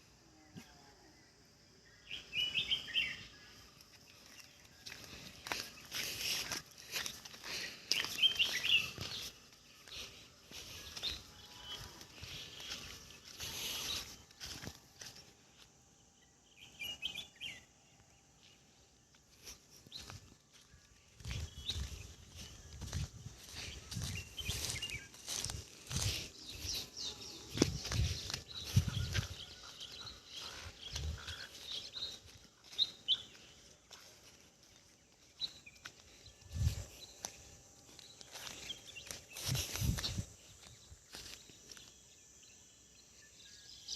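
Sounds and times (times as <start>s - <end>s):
faint rural ambience: 0.0s - 43.9s
bird chirps: 0.6s - 15.2s, 16.0s - 18.6s, 19.4s - 43.9s.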